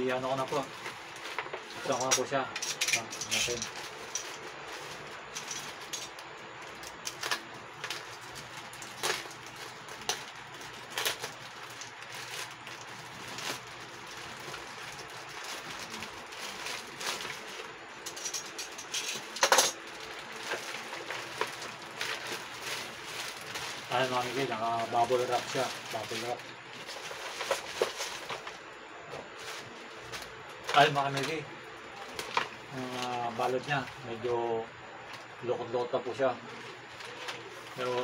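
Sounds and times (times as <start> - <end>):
plastic mailer crinkling and rustling: 0.0 - 38.0.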